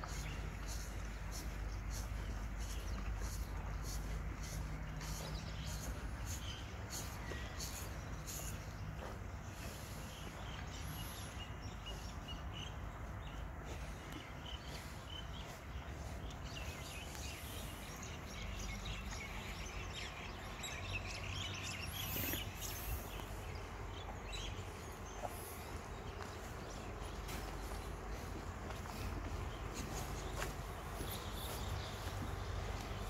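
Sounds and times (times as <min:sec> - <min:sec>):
small birds chirping: 0:00.0 - 0:33.0
steady low rumble: 0:00.0 - 0:33.0.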